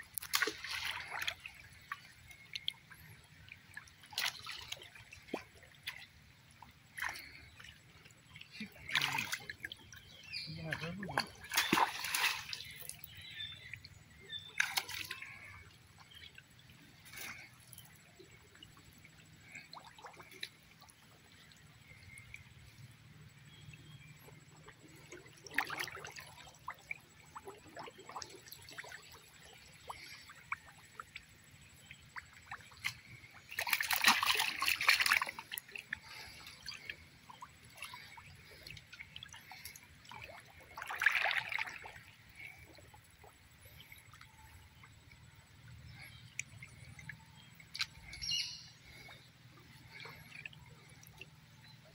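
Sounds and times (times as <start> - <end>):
water splashing and sloshing: 0.0 - 51.9
water trickling and dripping: 0.0 - 51.9.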